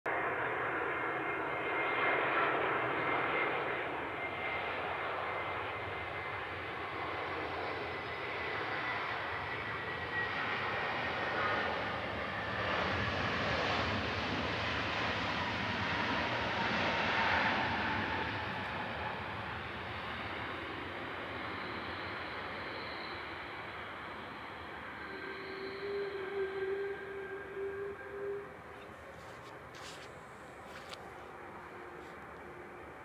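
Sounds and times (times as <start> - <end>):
airliner engine roar: 0.1 - 33.0.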